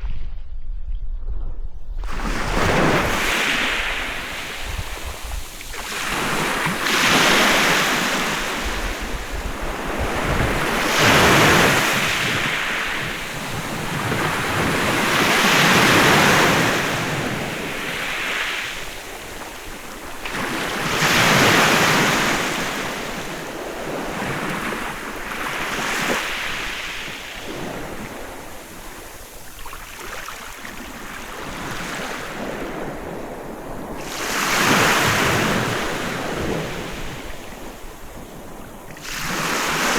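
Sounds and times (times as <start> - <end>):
sea waves breaking on beach: 2.1 - 39.9.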